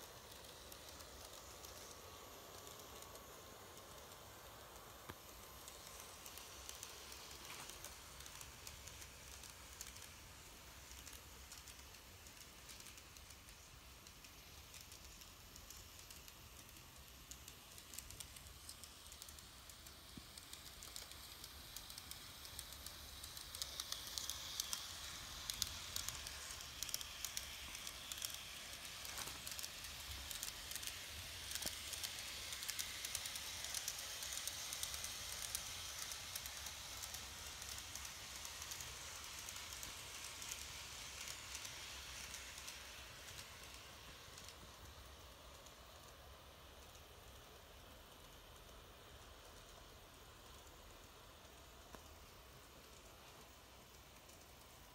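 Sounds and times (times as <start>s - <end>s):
model train whirring hiss: 0.0s - 54.9s
small wheels clicking over rails: 0.0s - 54.9s.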